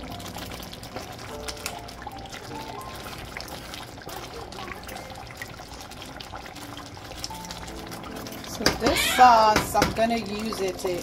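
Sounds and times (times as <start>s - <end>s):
sauce bubbling in a pot: 0.0s - 11.0s
soft background music: 0.0s - 11.0s.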